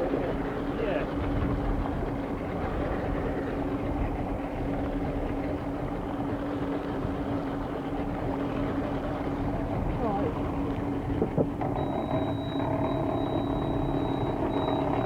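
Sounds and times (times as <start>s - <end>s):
boat engine humming: 0.0s - 15.0s
water rumbling: 0.0s - 15.0s
wind: 0.0s - 15.0s.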